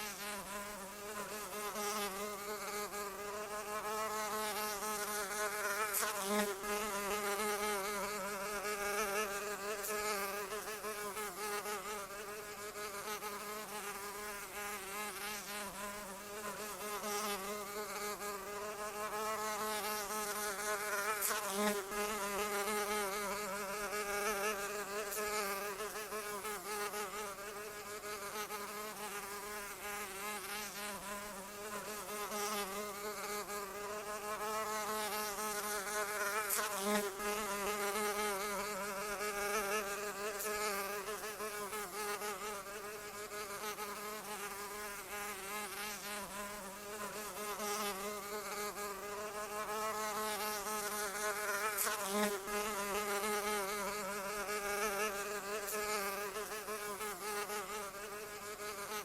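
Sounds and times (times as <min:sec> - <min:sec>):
insect wings buzzing: 0:00.0 - 0:59.0.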